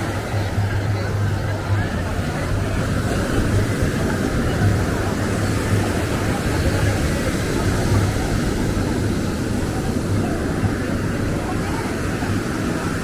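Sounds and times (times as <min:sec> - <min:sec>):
people's voices: 0:00.0 - 0:13.0.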